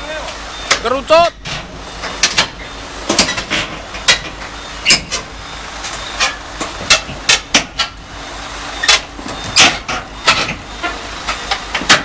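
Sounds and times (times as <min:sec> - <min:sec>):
crawler tracks clanking on steel: 0:00.0 - 0:08.1, 0:08.8 - 0:12.0
excavator engine running: 0:00.0 - 0:12.0.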